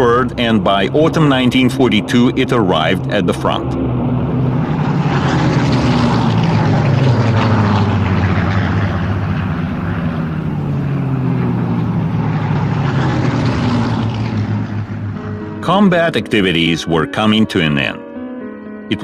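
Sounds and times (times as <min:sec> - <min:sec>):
propeller aircraft droning: 0:00.0 - 0:18.3.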